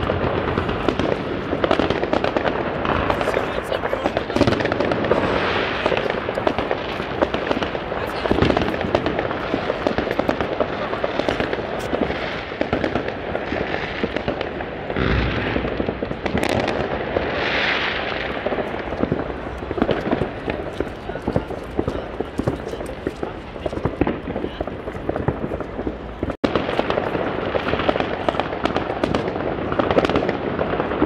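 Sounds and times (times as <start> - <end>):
firework booms: 0.0 - 31.0
fireworks crackling and popping: 0.0 - 31.0
hissing firework bursts: 0.0 - 31.0.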